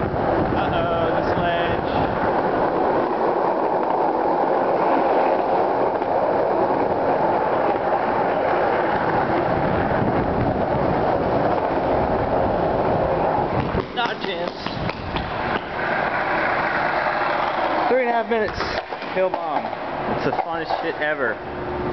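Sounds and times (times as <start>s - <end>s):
skateboard wheels rolling on concrete: 0.0s - 21.9s.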